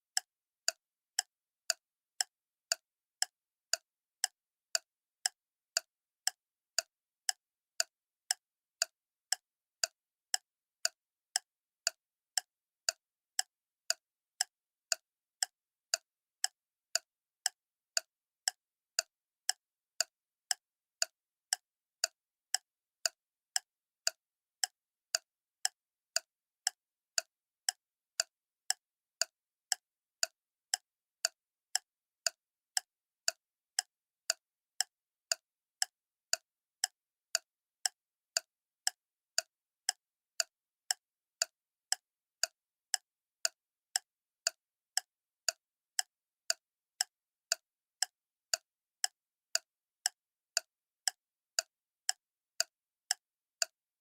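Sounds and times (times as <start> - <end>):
clock ticking: 0.2 - 53.8.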